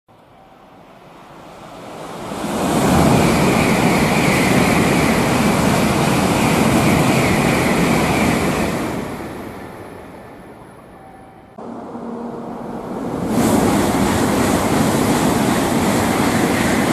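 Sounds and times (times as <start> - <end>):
high-speed train passing roar: 0.1 - 16.9.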